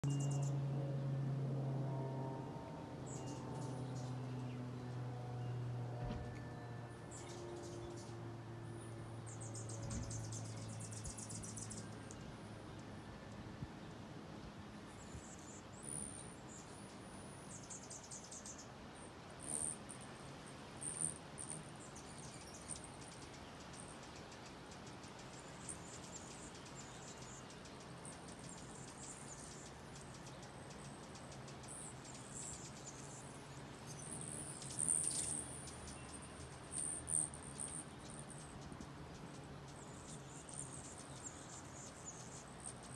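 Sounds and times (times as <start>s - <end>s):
hummingbirds chipping and chattering: 0.0s - 1.4s, 2.6s - 42.9s
faint low hum: 0.0s - 42.9s.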